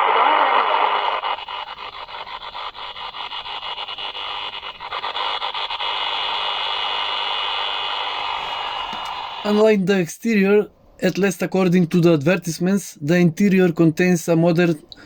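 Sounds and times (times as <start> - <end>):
radio static with crackling: 0.0 - 15.0.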